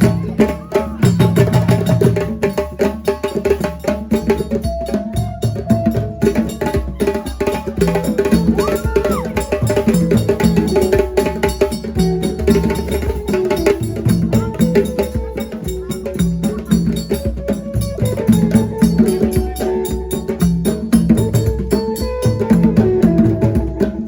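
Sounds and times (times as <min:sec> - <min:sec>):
drums: 0:00.0 - 0:24.0
wood-block percussion strikes: 0:00.0 - 0:24.0.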